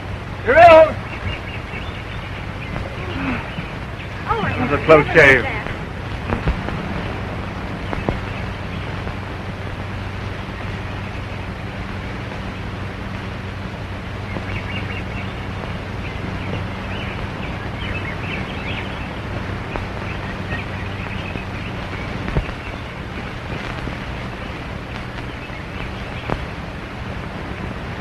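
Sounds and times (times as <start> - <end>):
film soundtrack hiss and hum: 0.0 - 28.0.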